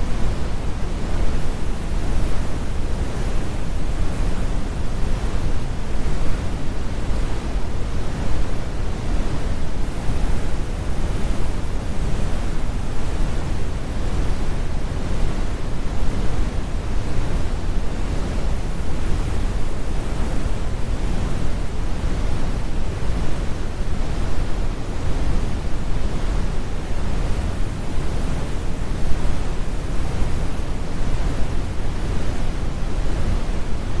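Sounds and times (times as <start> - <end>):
brown noise rumble: 0.0 - 34.0.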